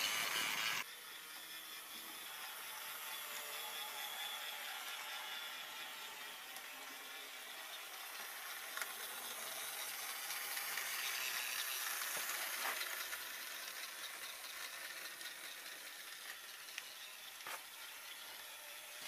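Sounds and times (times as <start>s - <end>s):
model train motor whirring: 0.0s - 19.0s.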